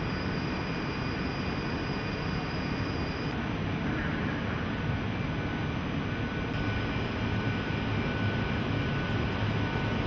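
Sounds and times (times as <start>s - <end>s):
station ambience: 0.0s - 10.0s
electric locomotive low rumble: 1.8s - 10.0s.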